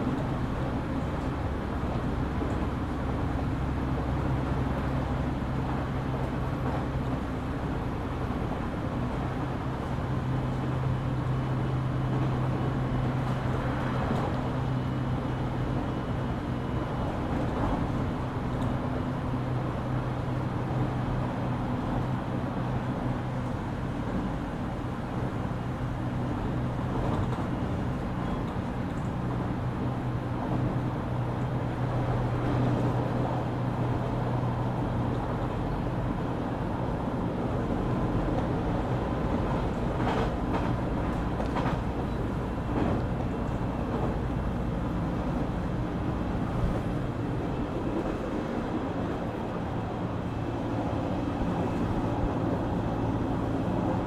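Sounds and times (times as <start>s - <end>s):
train wheel and rail noise: 0.0s - 54.0s.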